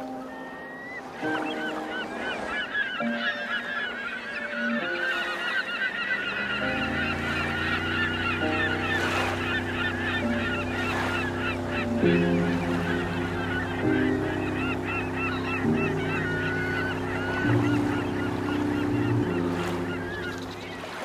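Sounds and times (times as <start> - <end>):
flock of birds calling: 0.0 - 21.0
sustained music chords: 0.0 - 21.0.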